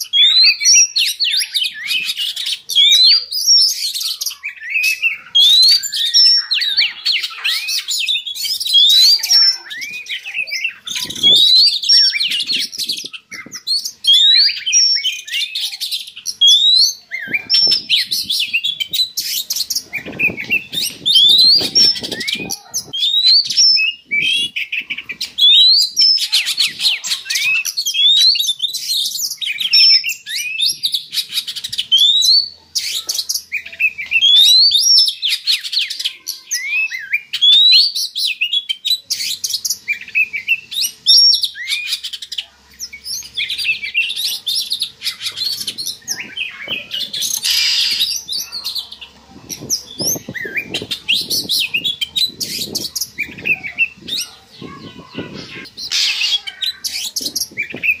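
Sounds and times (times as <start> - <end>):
bird singing whistled phrases: 0.0 - 42.2, 42.9 - 48.8, 49.6 - 58.0.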